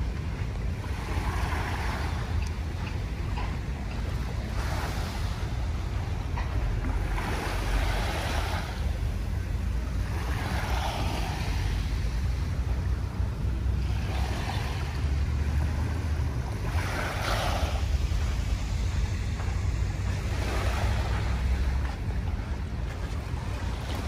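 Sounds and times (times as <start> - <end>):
waves washing on sandy shore: 0.0 - 24.0
wind rumble on microphone: 0.0 - 24.0.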